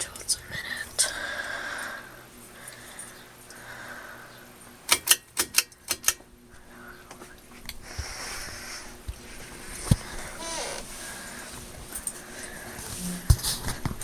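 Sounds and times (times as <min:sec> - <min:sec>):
ceiling fan humming: 0:00.0 - 0:14.0.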